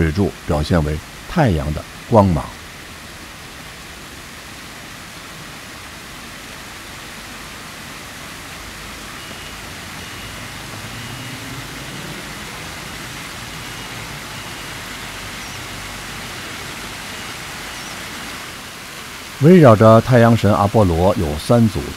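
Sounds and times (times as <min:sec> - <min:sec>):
fountain water splashing: 0:00.0 - 0:21.9.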